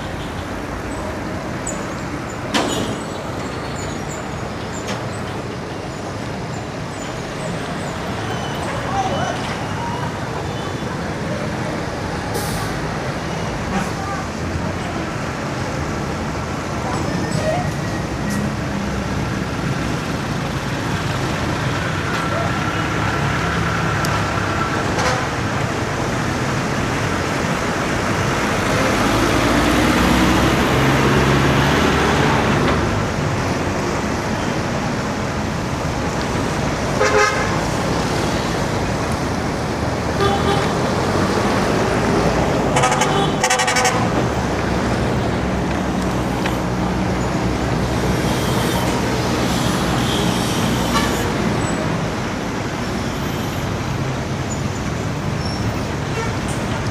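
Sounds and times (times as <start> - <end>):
rumble of motor vehicles: 0.0 - 56.9.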